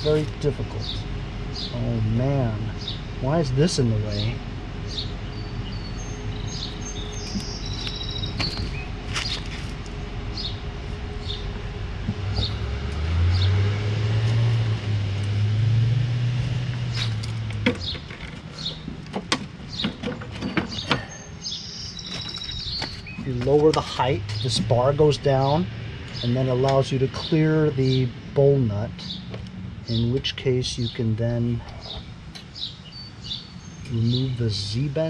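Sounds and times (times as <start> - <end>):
birds chirping: 0.0 - 35.0
low engine hum: 0.0 - 35.0.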